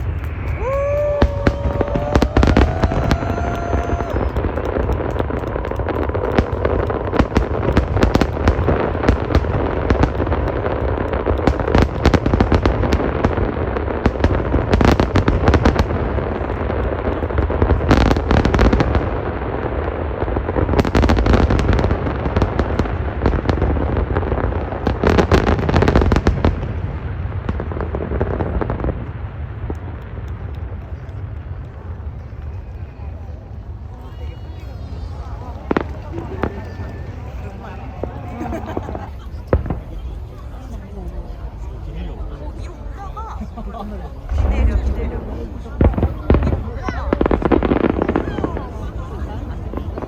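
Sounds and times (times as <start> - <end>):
fireworks bangs and crackling: 0.0 - 50.0.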